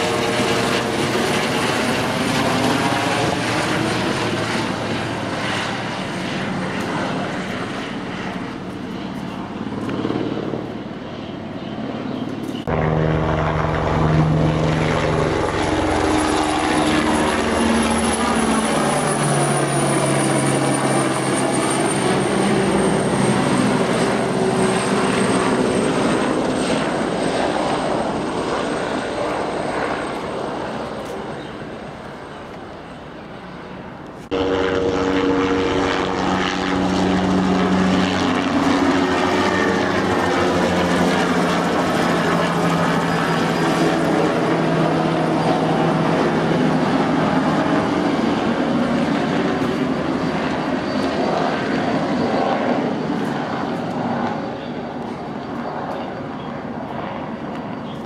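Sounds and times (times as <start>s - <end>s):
helicopter flying overhead: 0.0s - 58.0s
high steady turbine whine: 0.0s - 58.0s.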